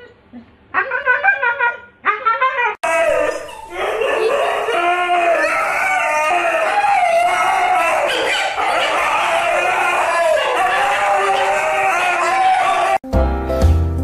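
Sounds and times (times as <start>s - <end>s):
dog whining: 0.8s - 13.0s
dogs howling together: 0.8s - 13.0s.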